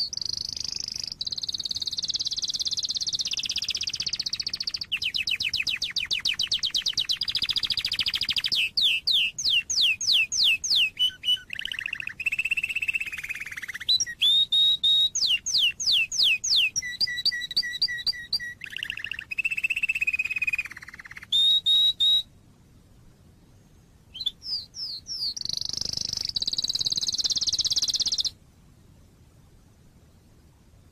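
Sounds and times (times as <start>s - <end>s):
canary singing: 0.0s - 22.3s, 24.1s - 28.4s.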